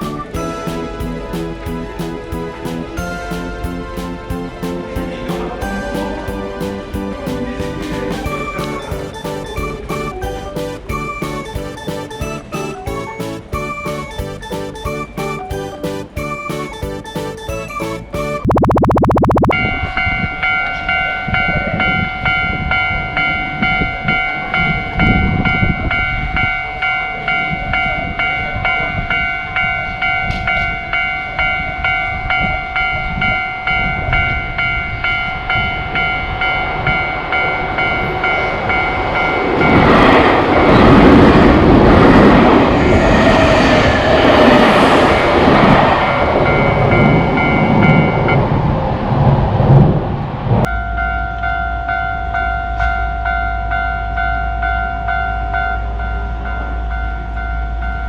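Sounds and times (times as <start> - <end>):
train rushing past: 0.0 - 18.5, 19.5 - 51.2
railroad crossing alarm ringing: 0.0 - 18.8, 19.5 - 49.5, 50.6 - 58.0.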